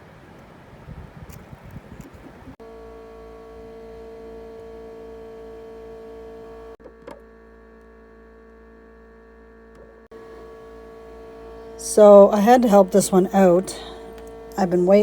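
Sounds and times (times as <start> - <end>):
incubator electrical hum: 2.0 - 15.0.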